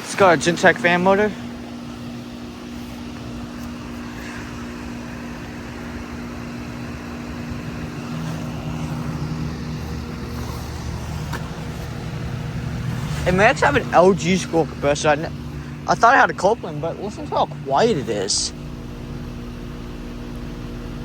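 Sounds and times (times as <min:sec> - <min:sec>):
compressor hum: 0:00.0 - 0:21.0
condenser fan rushing: 0:00.0 - 0:21.0
low hum: 0:00.0 - 0:21.0.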